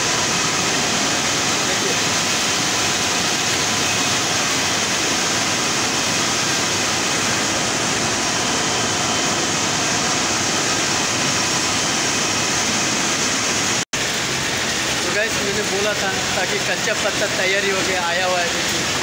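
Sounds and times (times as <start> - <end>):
conveyor belts running: 0.0 - 19.0
leaf-cutting machines running: 0.0 - 19.0.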